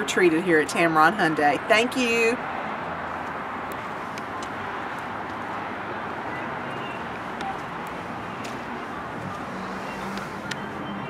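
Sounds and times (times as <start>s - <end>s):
distant road traffic hum: 0.0s - 11.0s.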